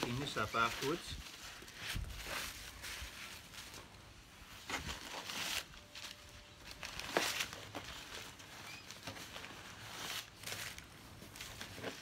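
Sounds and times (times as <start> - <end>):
bubble wrap rustling and crinkling: 0.0 - 12.0.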